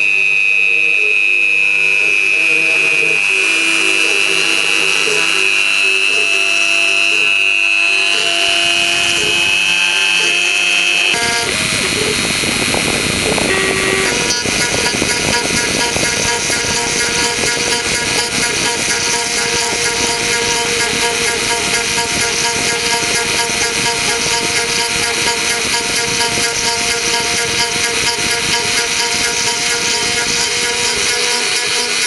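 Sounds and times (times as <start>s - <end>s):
cnc router spindle whine: 0.0s - 32.0s
stepper motors moving: 0.0s - 32.0s.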